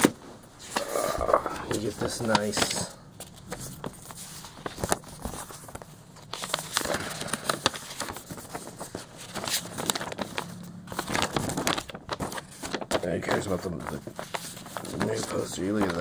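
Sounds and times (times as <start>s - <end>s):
paper rustling and crackling: 0.0s - 16.0s.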